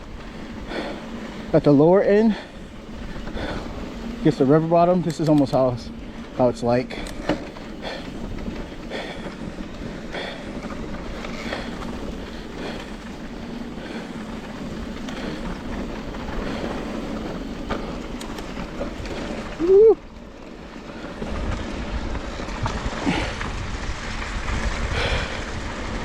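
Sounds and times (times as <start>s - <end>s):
bike frame clicks and rattles: 0.0s - 26.0s
bike tyres rolling on rocks: 0.0s - 26.0s.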